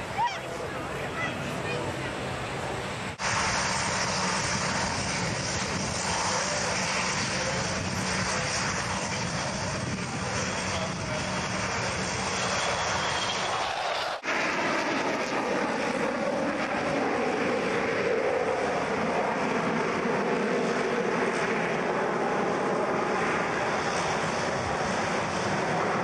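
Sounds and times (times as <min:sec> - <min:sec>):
propeller aircraft engines droning: 0:00.0 - 0:26.0.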